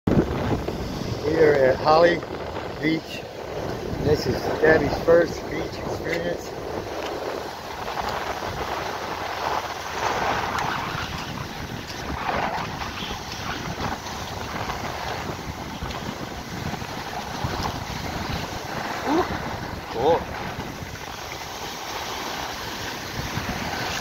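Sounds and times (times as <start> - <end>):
surf washing on beach: 0.1 - 24.0
wind on microphone: 0.1 - 24.0.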